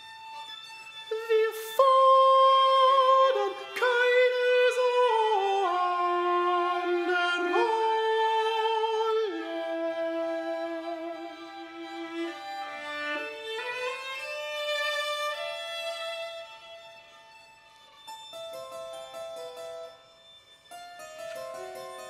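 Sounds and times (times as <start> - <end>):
bowed strings playing held notes: 0.0 - 22.0.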